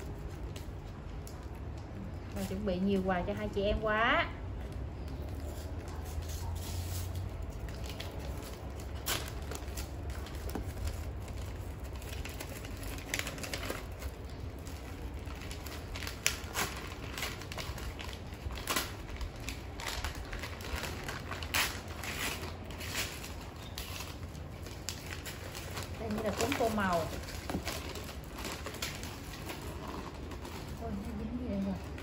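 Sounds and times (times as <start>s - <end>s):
clothing and packaging rustling: 4.5s - 32.0s.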